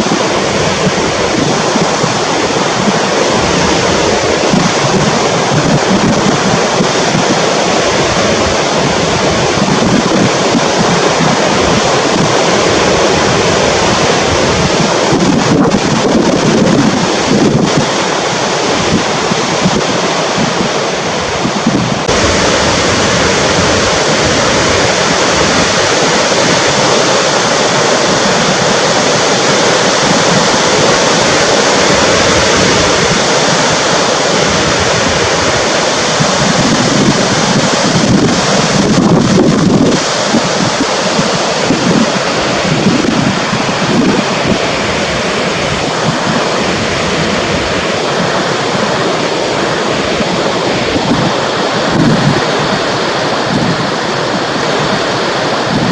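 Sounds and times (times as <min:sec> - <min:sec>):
waterfall rushing: 0:00.0 - 0:55.9
wind buffeting microphone: 0:00.0 - 0:55.9.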